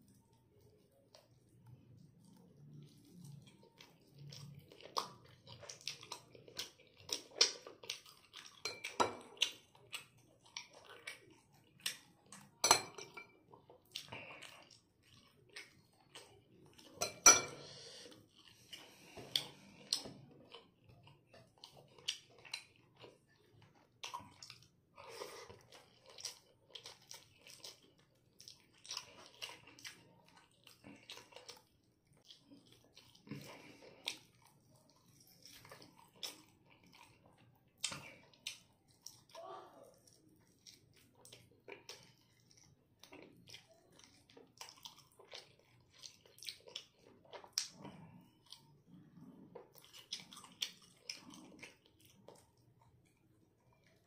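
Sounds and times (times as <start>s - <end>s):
chewing and mouth noises: 0.0s - 54.0s.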